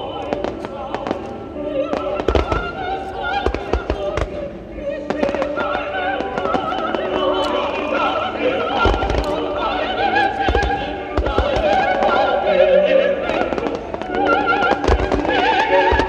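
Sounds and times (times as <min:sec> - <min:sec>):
operatic singing voice: 0:00.0 - 0:16.0
orchestral music: 0:00.0 - 0:16.0
fireworks booming: 0:01.8 - 0:12.5, 0:13.2 - 0:16.0.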